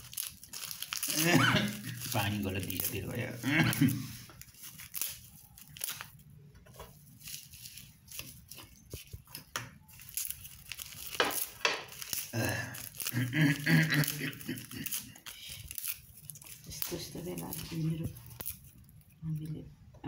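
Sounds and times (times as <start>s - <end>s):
dry seaweed tearing and crackling: 0.0s - 6.3s, 7.1s - 19.2s.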